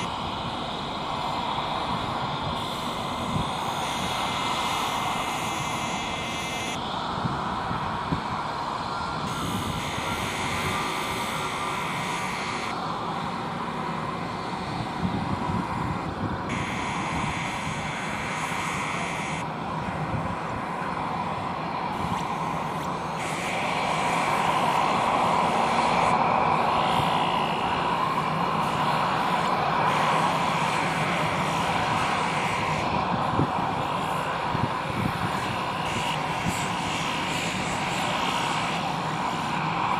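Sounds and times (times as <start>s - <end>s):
jet engines roaring at take-off: 0.0s - 39.9s.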